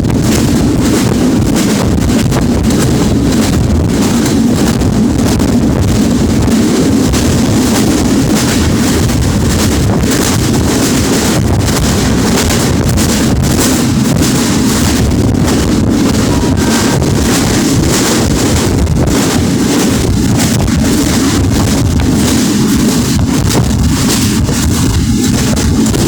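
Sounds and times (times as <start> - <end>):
train rumbling: 0.0 - 26.0
wind buffeting microphone: 0.0 - 26.0.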